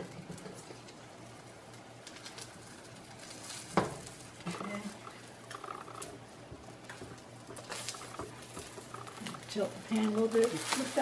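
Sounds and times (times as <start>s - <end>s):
omelet frying in a pan: 0.0s - 11.0s.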